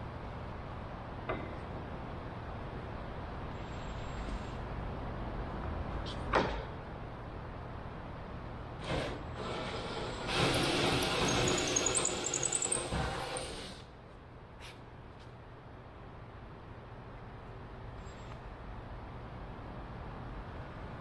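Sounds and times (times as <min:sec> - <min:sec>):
low workshop hum: 0:00.0 - 0:21.0.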